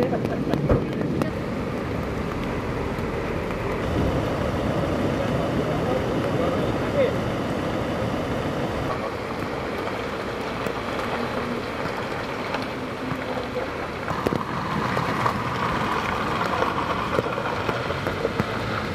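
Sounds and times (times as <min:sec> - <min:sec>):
heavy rain falling: 0:00.0 - 0:18.9
vehicle engine running: 0:00.0 - 0:18.9.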